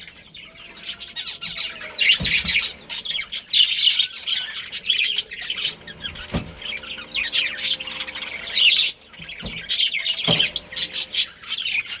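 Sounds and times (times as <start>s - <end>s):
budgerigars chirping and chattering: 0.0s - 12.0s.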